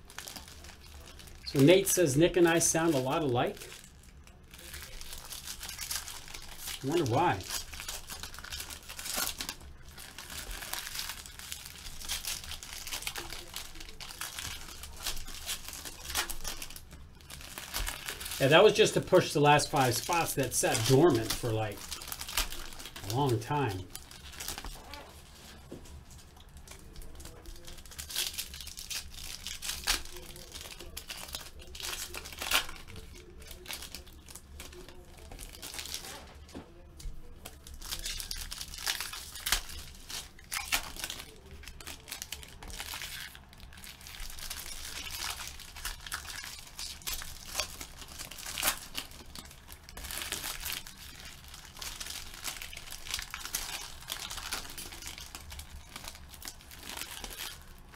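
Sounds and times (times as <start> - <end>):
wrappers crinkling and tearing: 0.0 - 57.9.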